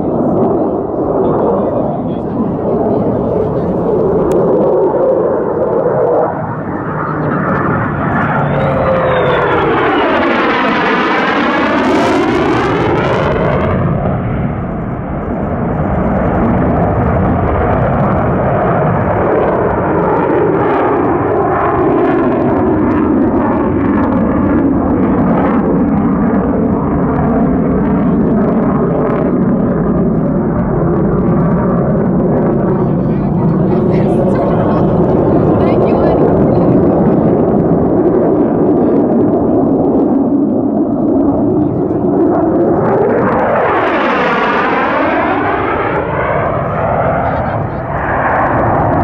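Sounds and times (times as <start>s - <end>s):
jet engine passing overhead: 0.0s - 49.0s.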